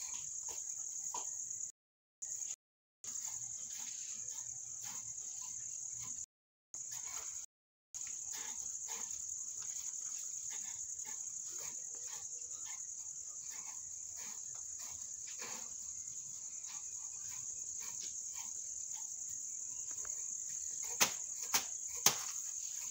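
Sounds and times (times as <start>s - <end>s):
insect chirring: 0.0s - 22.9s
fiber pulled through combs: 3.1s - 22.9s.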